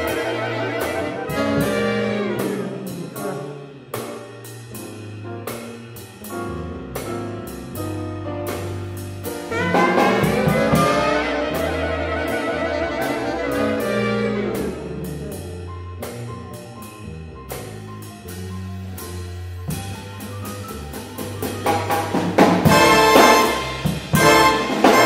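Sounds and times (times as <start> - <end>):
jazz big band playing: 0.0 - 25.0.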